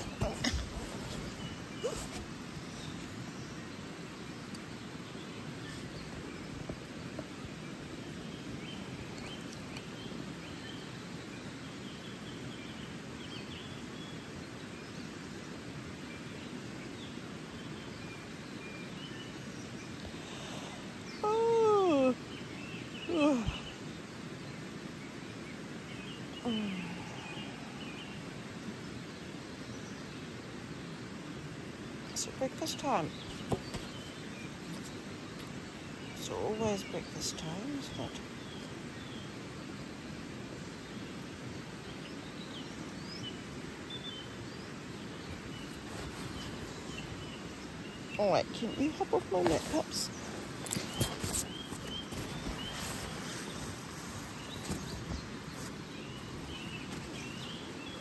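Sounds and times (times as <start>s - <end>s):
faint bird chirps: 0.0s - 15.2s, 16.2s - 30.4s, 32.0s - 58.0s.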